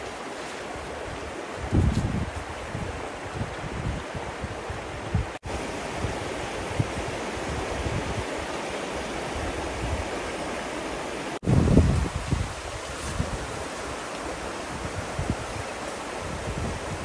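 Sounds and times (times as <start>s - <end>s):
water rushing: 0.0s - 17.0s
wind rumbling on microphone: 0.0s - 17.0s.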